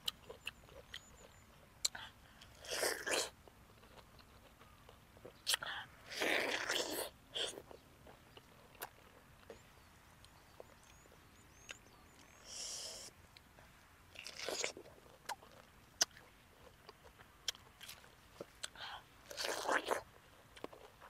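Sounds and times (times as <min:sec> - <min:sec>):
chewing juicy fruit: 0:00.0 - 0:21.0
crunchy chewing bursts: 0:00.0 - 0:21.0.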